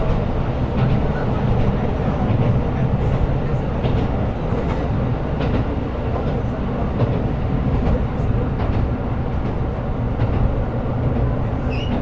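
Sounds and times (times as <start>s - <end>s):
railcar engine and wheels rumbling: 0.0s - 12.0s.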